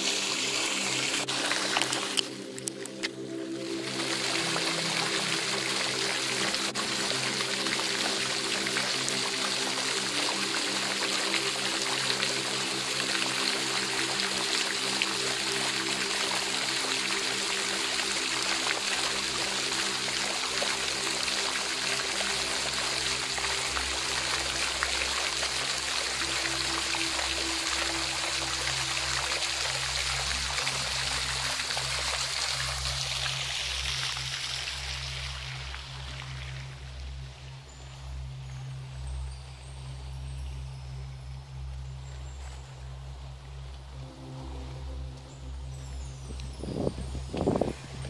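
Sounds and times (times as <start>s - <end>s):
music of low sustained chords: 0.0s - 48.0s
running water: 0.0s - 48.0s.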